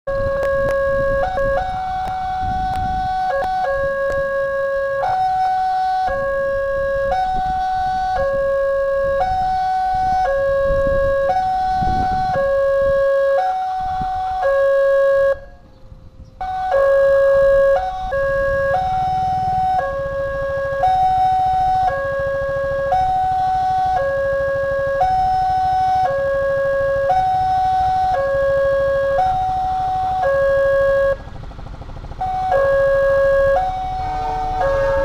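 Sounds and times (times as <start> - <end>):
level crossing two-tone alarm: 0.1 - 15.5, 16.4 - 31.2, 32.2 - 35.0
low engine rumble: 0.1 - 35.0.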